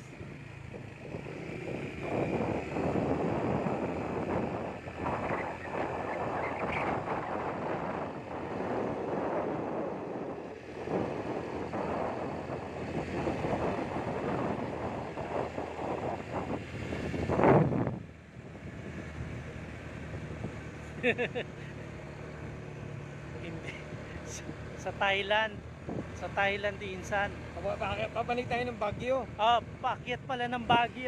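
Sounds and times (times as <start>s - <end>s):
wind buffeting microphone: 0.1s - 20.9s, 25.4s - 31.0s.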